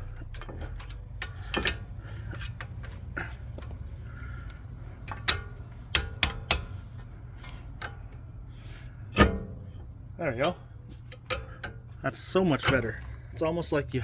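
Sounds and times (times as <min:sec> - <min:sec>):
metallic clicks of tools and brake parts: 0:00.0 - 0:13.4
steady low hum: 0:00.0 - 0:14.0.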